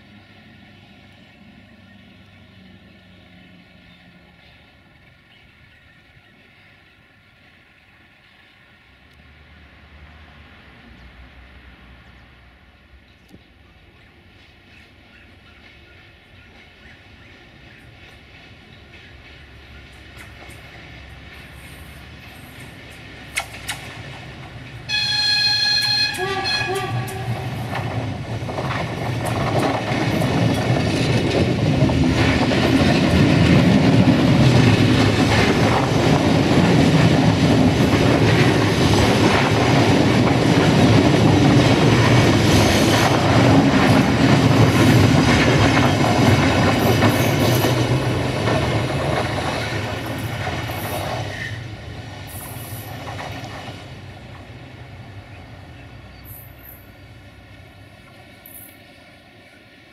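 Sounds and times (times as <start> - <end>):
wheels clickety-clack on rails: 0.0 - 58.8
diesel train passing: 0.0 - 59.9.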